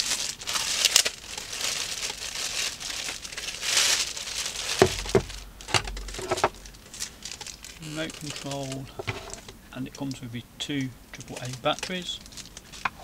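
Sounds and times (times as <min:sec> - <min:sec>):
plastic bag crinkling: 0:00.0 - 0:10.2, 0:11.2 - 0:13.0.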